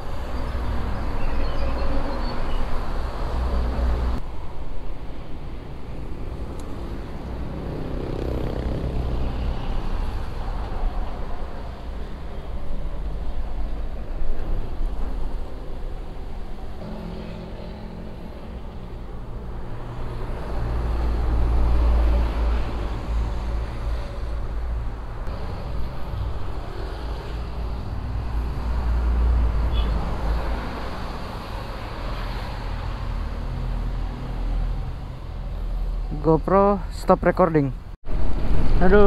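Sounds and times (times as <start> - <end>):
tyre and traffic noise: 0.0 - 39.0.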